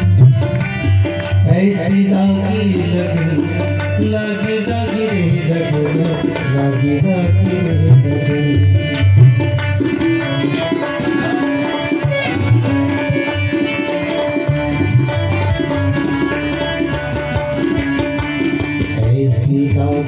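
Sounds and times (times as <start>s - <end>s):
hand drum rhythm: 0.0s - 20.0s
harmonium melody: 0.0s - 20.0s.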